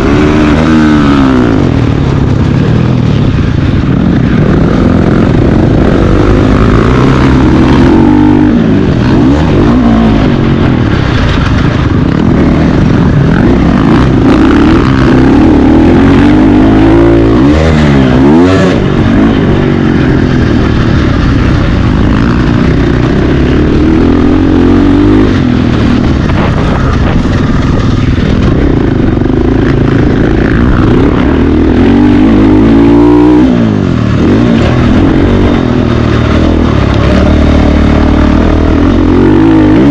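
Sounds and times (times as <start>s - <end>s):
motocross bike engine racing: 0.0s - 39.9s.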